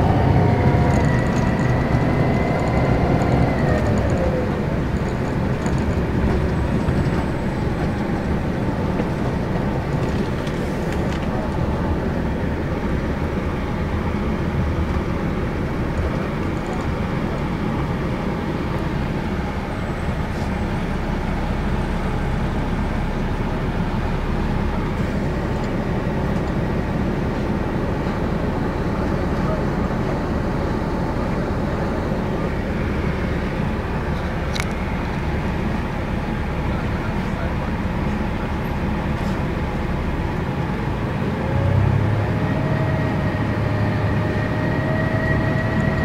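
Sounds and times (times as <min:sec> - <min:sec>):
bus diesel engine running: 0:00.0 - 0:46.0
tyre rumble and road noise: 0:00.0 - 0:46.0.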